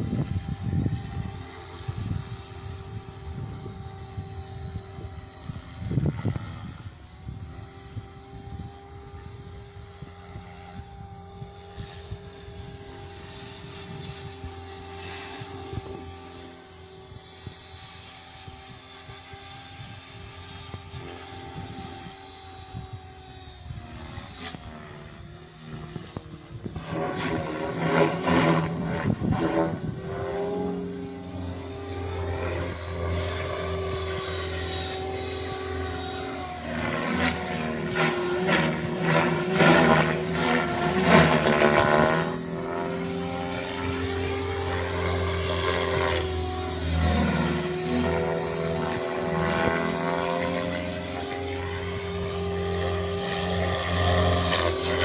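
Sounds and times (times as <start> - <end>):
rc helicopter motor whine: 0.0 - 55.0.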